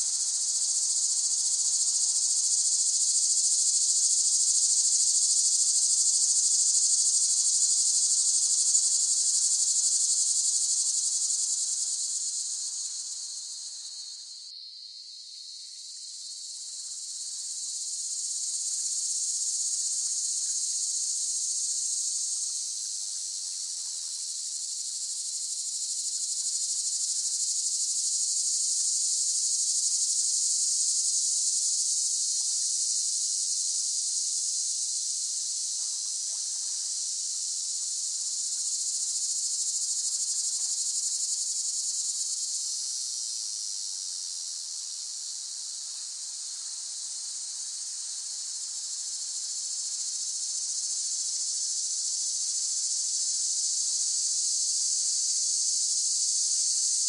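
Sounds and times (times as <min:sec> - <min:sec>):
cicadas buzzing: 0:00.0 - 0:34.0, 0:34.6 - 0:57.0.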